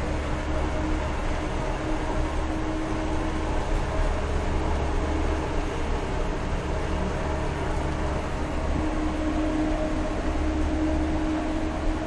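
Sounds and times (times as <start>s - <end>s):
diesel bus engine droning: 0.0s - 12.0s
road noise: 0.0s - 12.0s.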